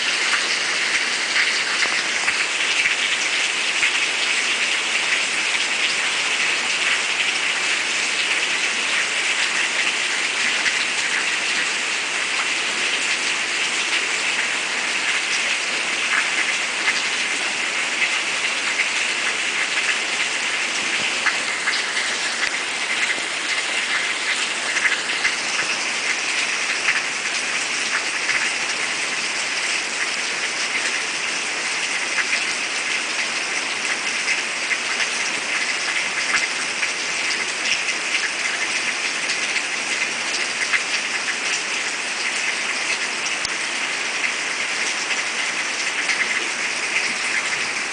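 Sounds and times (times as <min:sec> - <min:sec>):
rain hiss: 0:00.0 - 0:47.9.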